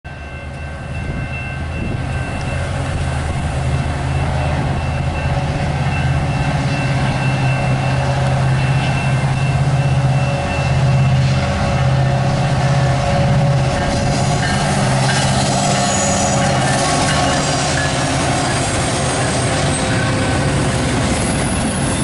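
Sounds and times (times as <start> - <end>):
diesel locomotive engines rumbling: 0.1 - 22.0.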